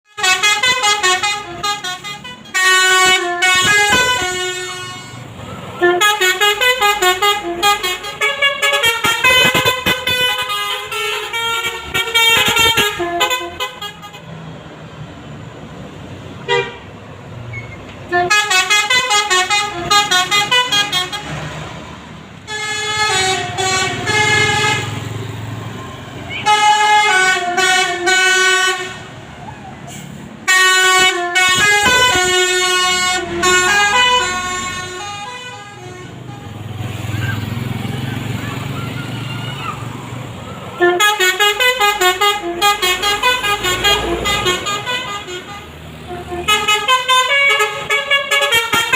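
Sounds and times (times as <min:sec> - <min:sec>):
multi-tone bus air horn melody: 0:00.0 - 0:14.4, 0:16.4 - 0:17.0, 0:18.1 - 0:21.5, 0:22.4 - 0:25.2, 0:26.2 - 0:36.9, 0:40.8 - 0:48.9.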